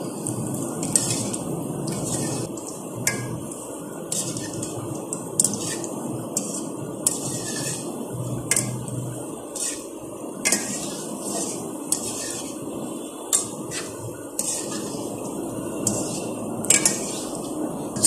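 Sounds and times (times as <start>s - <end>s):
food sizzling in oil: 0.0s - 18.0s
metal skimmer scraping pan: 0.8s - 3.4s, 4.1s - 18.0s.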